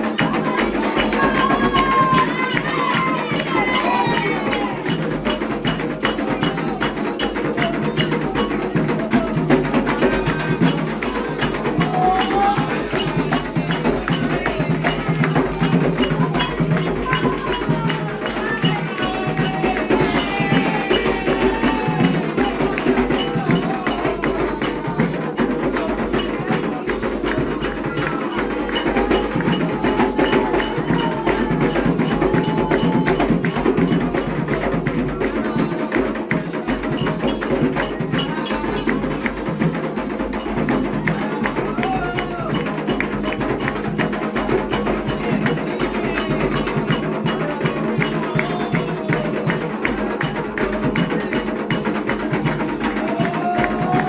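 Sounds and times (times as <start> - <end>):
hand drums: 0.0 - 54.0
voices singing: 0.0 - 54.0.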